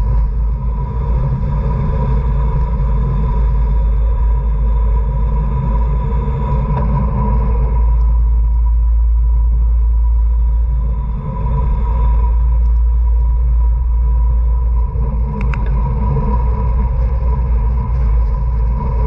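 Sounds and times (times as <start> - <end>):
faint steady whine: 0.0 - 19.0
tyre road noise: 0.0 - 19.0
wind buffeting microphone: 0.0 - 19.0.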